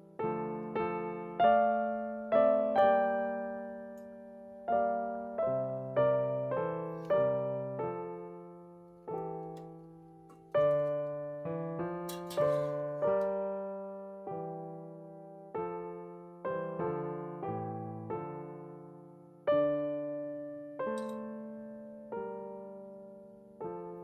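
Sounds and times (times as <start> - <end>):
slow solo piano melody: 0.0 - 24.0.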